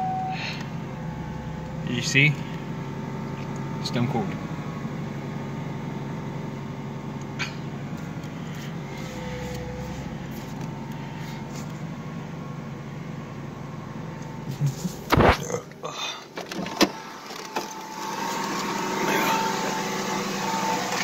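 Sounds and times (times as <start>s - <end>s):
car engine fast idle: 0.2s - 21.0s.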